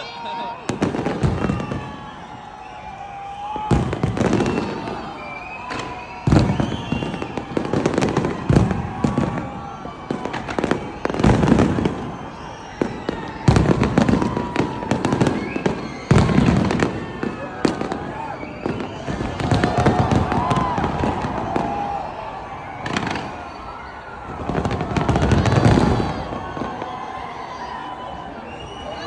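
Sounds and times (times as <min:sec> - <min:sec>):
fireworks crackle: 0:00.0 - 0:27.2
fireworks bangs: 0:00.0 - 0:28.6.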